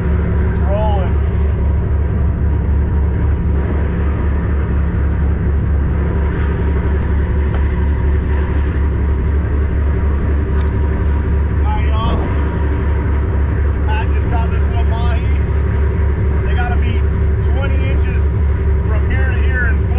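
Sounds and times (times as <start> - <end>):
diesel engine droning: 0.0 - 19.9.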